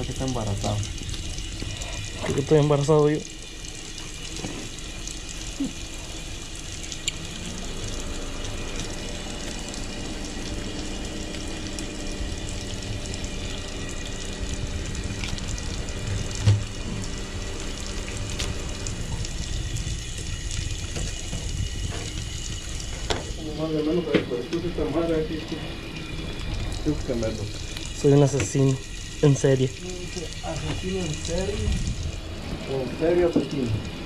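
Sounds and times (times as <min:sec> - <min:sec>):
faint hum: 0:00.0 - 0:34.0
running water rushing: 0:00.0 - 0:34.0.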